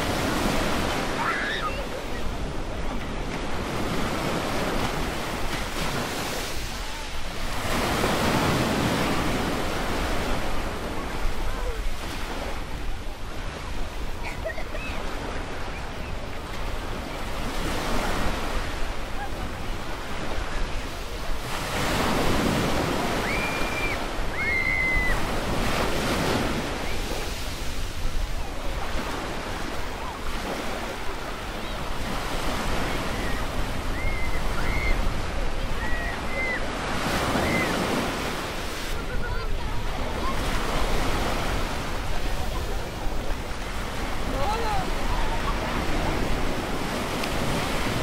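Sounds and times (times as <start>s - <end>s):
waves washing onto sand: 0.0s - 48.0s.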